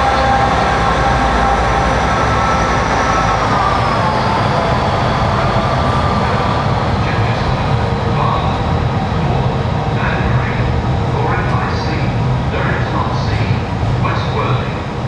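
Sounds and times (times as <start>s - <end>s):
diesel train engine whine: 0.0s - 15.0s
train wheel and rail noise: 0.0s - 15.0s.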